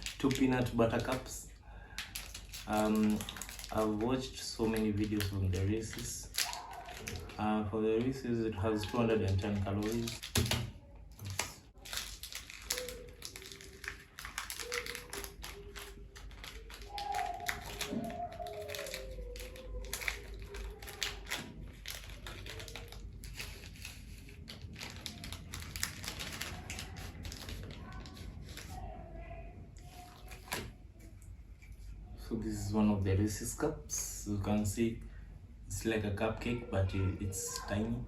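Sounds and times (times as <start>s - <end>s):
plastic wrapper crinkling: 0.0s - 31.9s.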